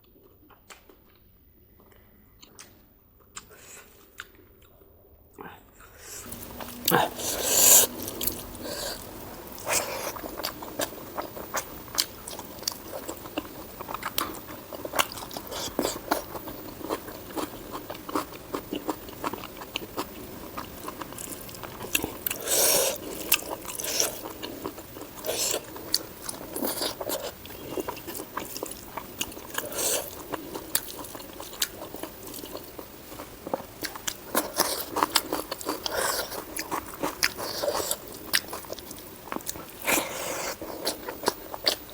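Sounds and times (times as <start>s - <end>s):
food crunching: 6.2s - 41.9s
chewing and biting food: 6.3s - 41.9s.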